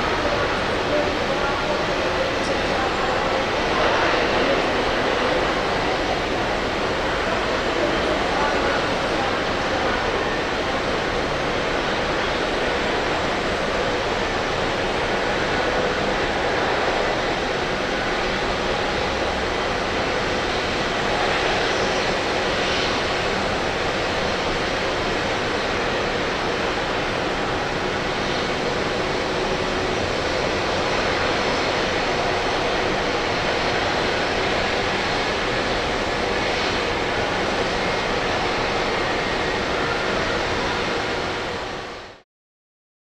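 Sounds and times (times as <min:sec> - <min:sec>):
loud jet engine roar: 0:00.0 - 0:42.2.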